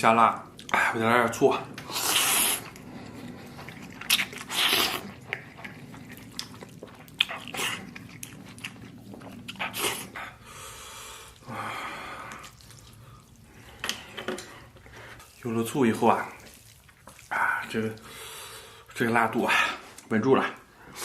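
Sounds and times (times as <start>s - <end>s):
slurping noodles: 1.6s - 19.0s.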